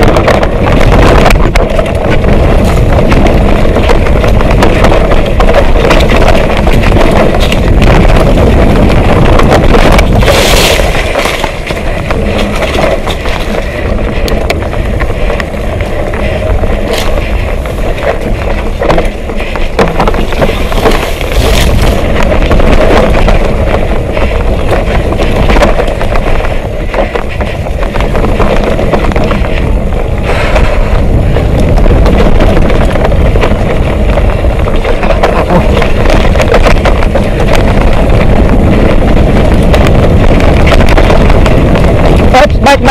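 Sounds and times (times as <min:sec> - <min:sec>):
bike rattling: 0:00.0 - 0:42.9
tyres rumbling over dirt: 0:00.0 - 0:42.9
wind buffeting microphone: 0:00.0 - 0:42.9.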